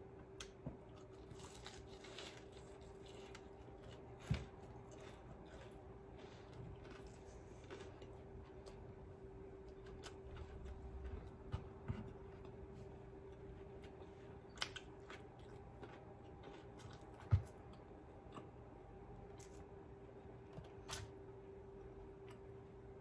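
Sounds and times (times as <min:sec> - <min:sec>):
faint steady hum: 0:00.0 - 0:23.0
person chewing food: 0:00.4 - 0:19.7.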